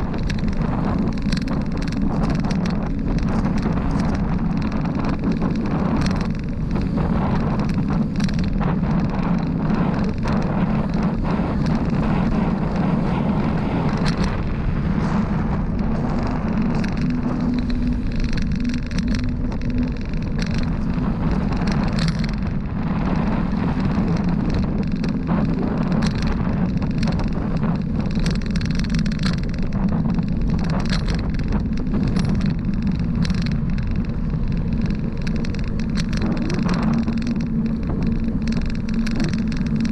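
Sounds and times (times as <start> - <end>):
bicycle clicks and rattles: 0.0 - 39.9
road noise: 0.0 - 39.9
wind noise: 0.0 - 39.9.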